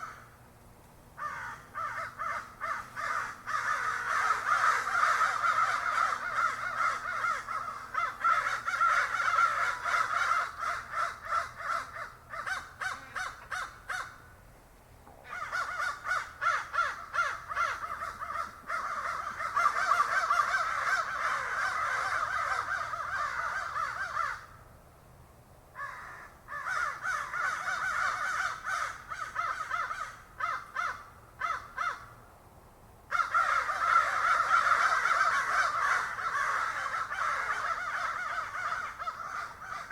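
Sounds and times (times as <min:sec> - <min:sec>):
crows cawing: 0:00.0 - 0:00.4, 0:01.2 - 0:14.3, 0:15.2 - 0:24.6, 0:25.7 - 0:32.2, 0:33.1 - 0:39.9.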